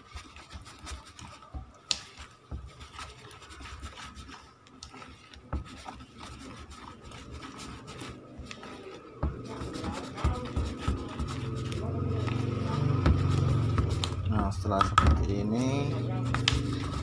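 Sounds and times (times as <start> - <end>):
plastic spoon scraping bowl: 0.0 - 17.0.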